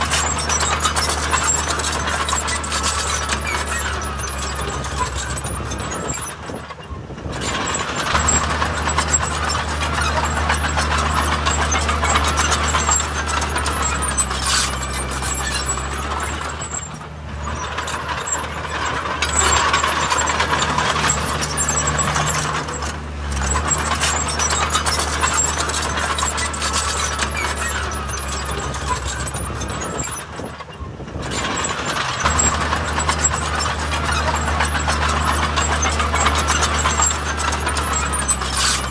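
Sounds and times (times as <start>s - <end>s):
low engine hum: 0.0s - 38.9s
mechanical clatter: 0.0s - 38.9s.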